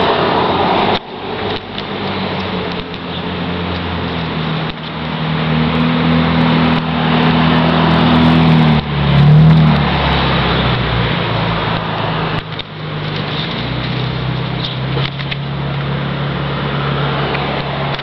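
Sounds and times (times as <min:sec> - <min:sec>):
engine humming: 0:00.0 - 0:18.0
rushing noise: 0:00.0 - 0:18.0.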